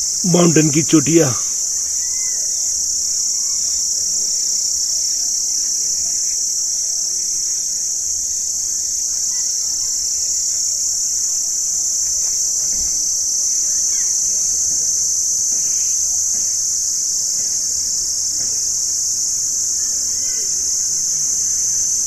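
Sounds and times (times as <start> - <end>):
insect chorus drone: 0.0 - 22.0.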